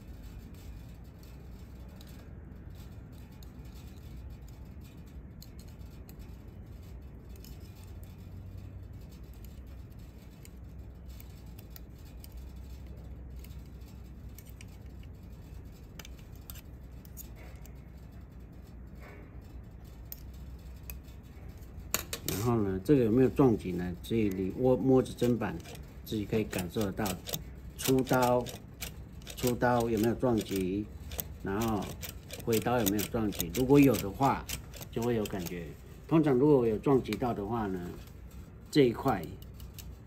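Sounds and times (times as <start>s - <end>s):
light metallic clicks and scrapes: 0.0s - 40.0s
steady low hum: 0.0s - 40.0s.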